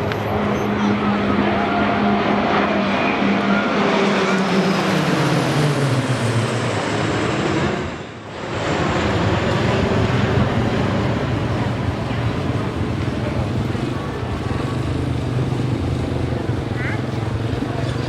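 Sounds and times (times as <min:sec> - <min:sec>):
propeller aircraft flying past: 0:00.0 - 0:18.0.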